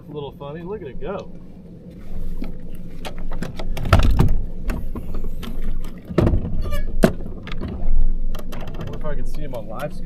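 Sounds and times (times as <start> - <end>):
boat motor hum: 0.0 - 10.0.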